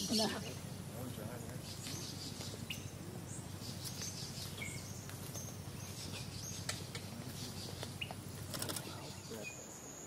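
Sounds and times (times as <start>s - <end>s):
bird calls and chirps: 0.0s - 10.0s
low background hum: 0.0s - 10.0s.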